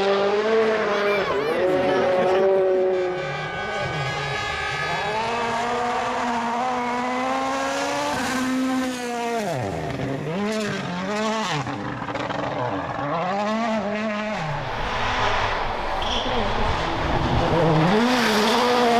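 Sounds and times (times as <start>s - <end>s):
rally car engine revving: 0.0s - 18.9s.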